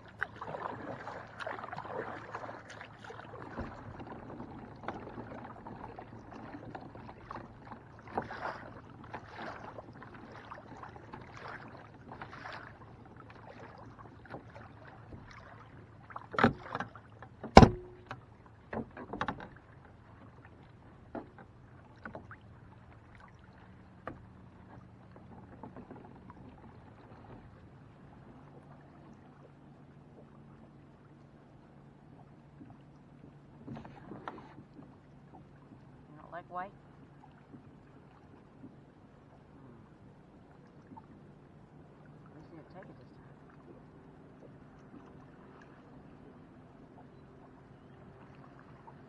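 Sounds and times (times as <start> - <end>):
water sloshing around kayak: 0.0 - 49.0.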